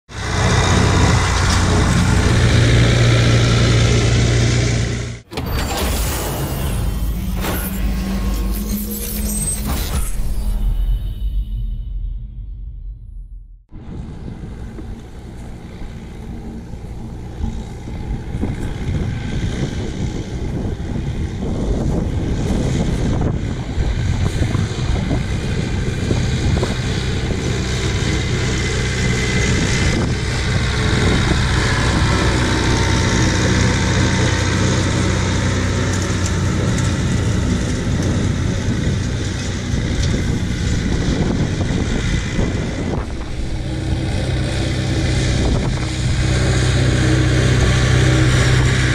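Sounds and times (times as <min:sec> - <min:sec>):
tractor diesel engine running: 0:00.1 - 0:09.8, 0:13.6 - 0:48.9.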